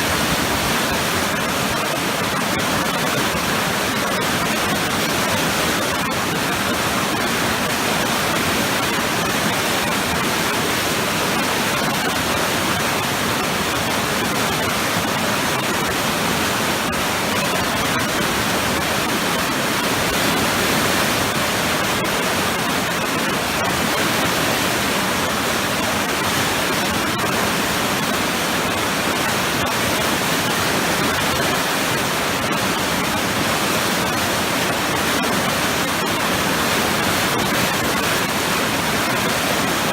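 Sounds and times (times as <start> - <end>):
waterfall pouring into a pool: 0.0 - 39.9.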